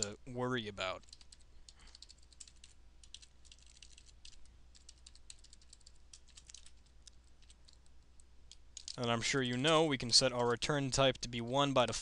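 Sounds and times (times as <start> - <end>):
faint typing on keyboard: 0.8 - 12.0.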